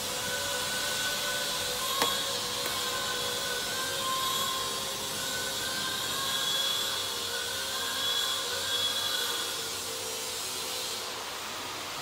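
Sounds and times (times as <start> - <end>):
machine fan whirring: 0.0 - 12.0.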